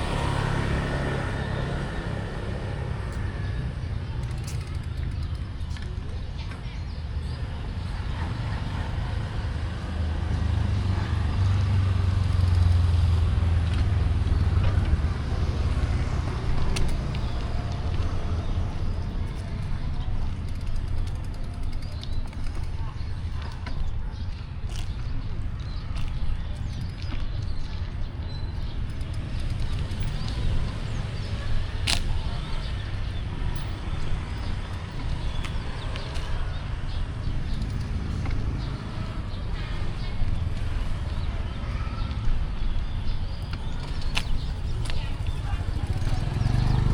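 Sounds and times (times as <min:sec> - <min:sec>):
vehicle engine rumble passing: 0:00.0 - 0:06.1, 0:07.4 - 0:46.9
city street traffic: 0:00.0 - 0:46.9.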